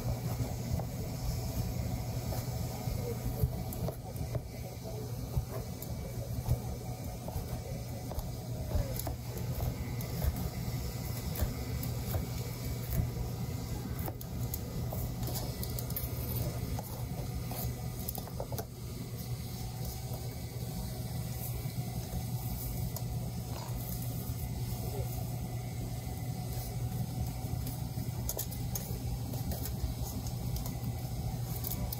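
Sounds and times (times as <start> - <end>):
low machine hum: 0.0 - 31.9.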